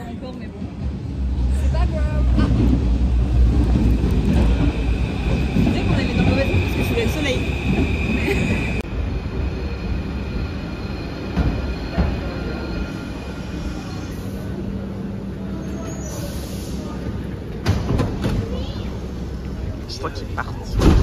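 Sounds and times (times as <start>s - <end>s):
metro train rumbling at platform: 0.0s - 21.0s
high whining from train wheels: 1.0s - 18.2s.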